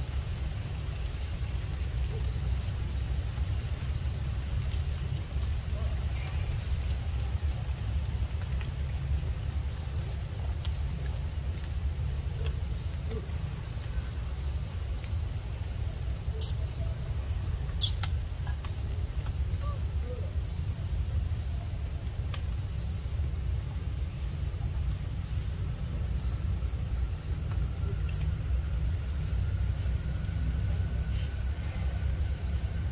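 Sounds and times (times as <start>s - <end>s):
insects shrilling: 0.0s - 32.9s
low steady rumble: 0.0s - 32.9s.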